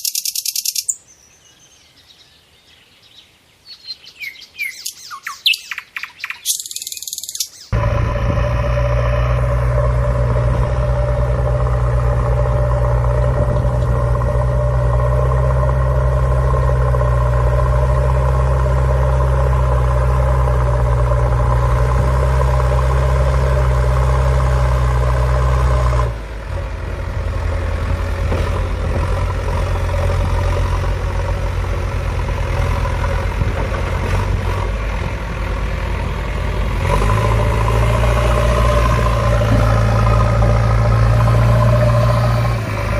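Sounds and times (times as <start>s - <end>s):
tractor engine idling: 7.7s - 42.9s.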